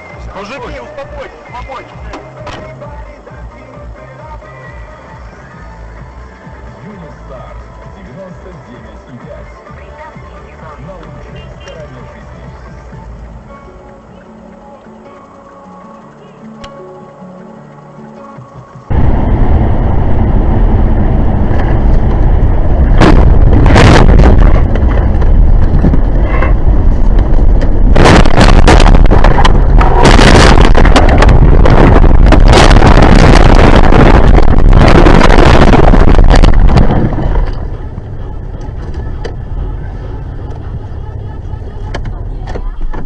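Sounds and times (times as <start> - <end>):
overloaded vehicle rumble: 0.0 - 43.0.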